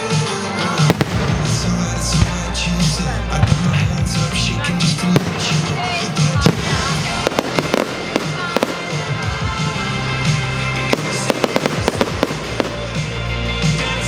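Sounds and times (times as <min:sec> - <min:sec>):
fireworks bangs and crackles: 0:00.0 - 0:13.8
pop music with steady beat: 0:00.0 - 0:14.0.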